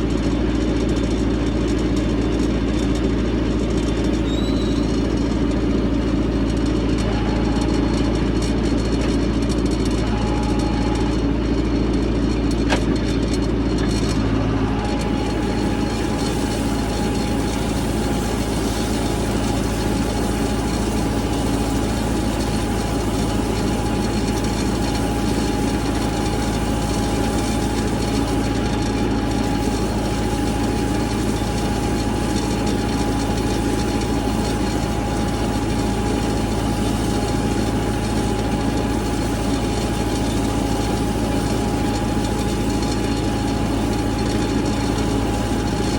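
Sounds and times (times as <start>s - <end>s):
vehicle engine running steadily: 0.0s - 45.9s.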